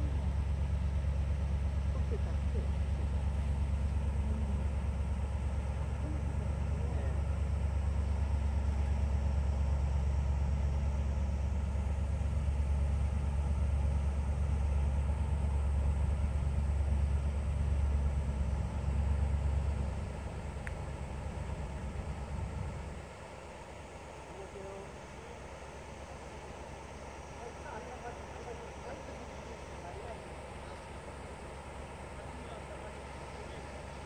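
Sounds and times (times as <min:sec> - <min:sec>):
diesel engine drone: 0:00.0 - 0:34.0.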